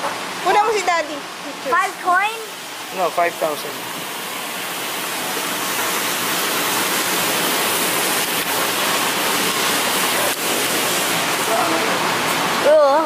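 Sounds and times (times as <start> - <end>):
steady rushing hiss: 0.1 - 13.0.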